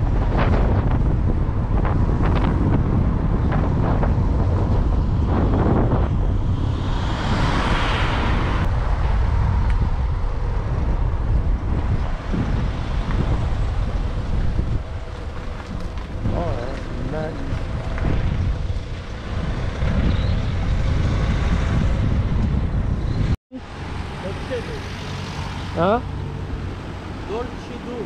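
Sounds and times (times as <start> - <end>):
road rumble: 0.0 - 28.0
vehicle whoosh: 0.0 - 28.0
wind buffeting microphone: 0.0 - 28.0.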